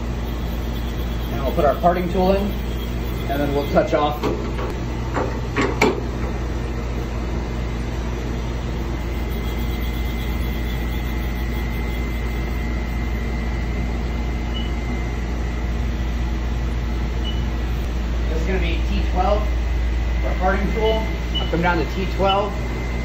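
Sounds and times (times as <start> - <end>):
faint high whine: 0.0 - 4.4, 8.1 - 23.0
low machine hum: 0.0 - 23.0.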